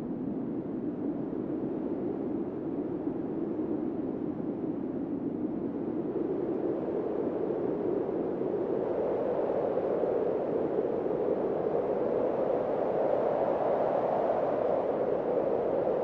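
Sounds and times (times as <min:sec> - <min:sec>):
wind blowing across a field: 0:00.0 - 0:16.0.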